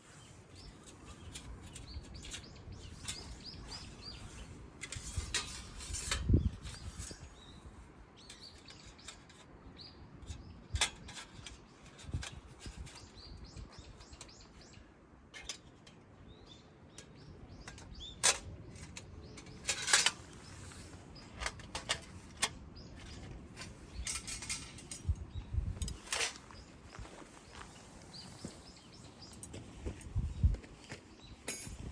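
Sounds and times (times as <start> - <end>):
birds chirping: 0.0 - 31.9
steady outdoor hiss: 0.0 - 31.9.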